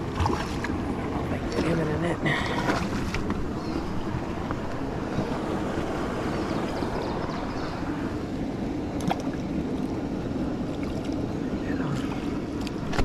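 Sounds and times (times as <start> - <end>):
low rushing outdoor noise: 0.7 - 13.0.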